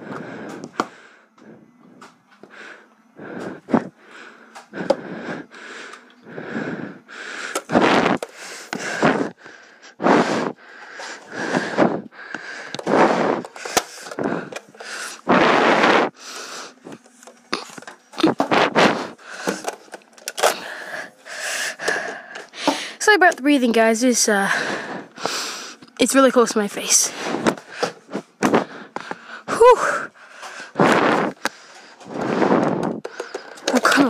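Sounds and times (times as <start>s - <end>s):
heavy fast breathing: 0.0s - 34.0s.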